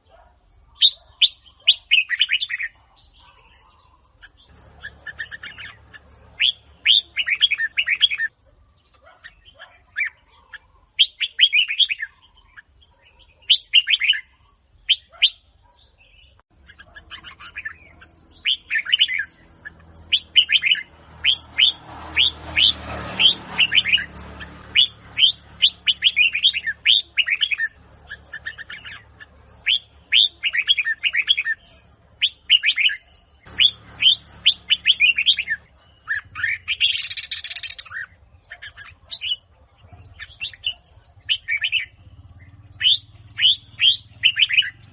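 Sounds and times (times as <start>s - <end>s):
bulbul singing whistled notes: 0.7s - 8.3s, 11.0s - 12.6s, 13.2s - 44.9s.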